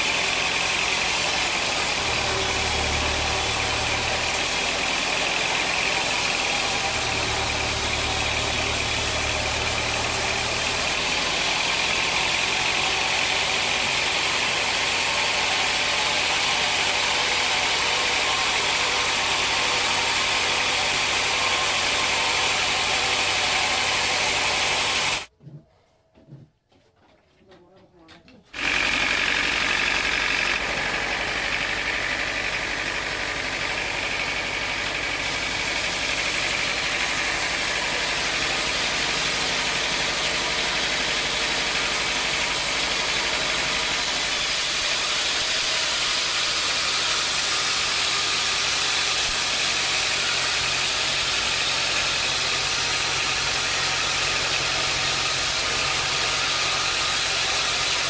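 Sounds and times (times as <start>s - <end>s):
sawmill machinery drone: 0.0s - 25.3s, 28.6s - 58.0s.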